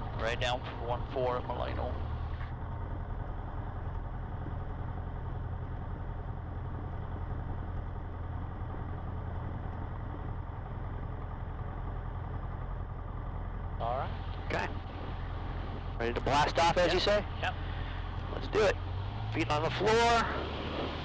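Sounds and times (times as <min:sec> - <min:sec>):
small plane engine droning: 0:00.0 - 0:21.0.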